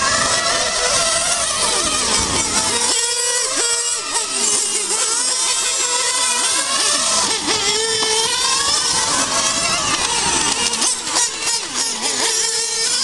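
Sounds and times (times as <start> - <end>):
model car engines revving: 0.0 - 13.0.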